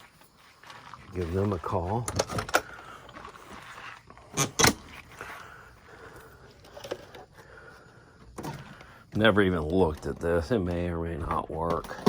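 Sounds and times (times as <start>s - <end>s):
faint rustling of objects: 0.0s - 12.0s.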